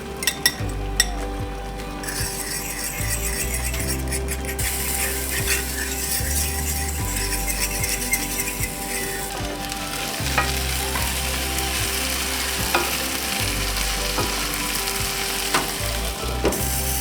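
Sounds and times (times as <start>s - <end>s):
food sizzling in a pan: 2.0s - 17.0s.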